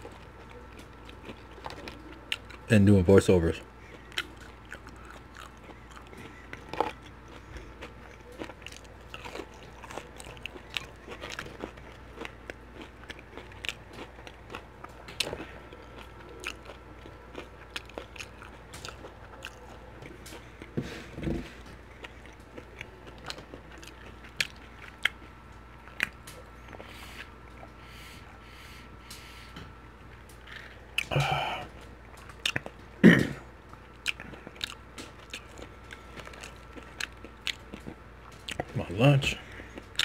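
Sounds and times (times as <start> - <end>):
chewing and crunching: 0.0 - 40.0.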